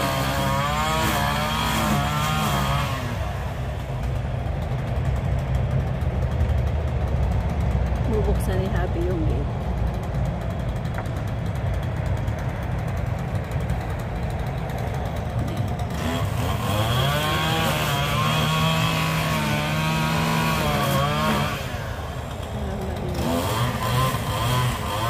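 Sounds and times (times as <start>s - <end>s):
string trimmer engine cutting grass: 0.0s - 25.0s.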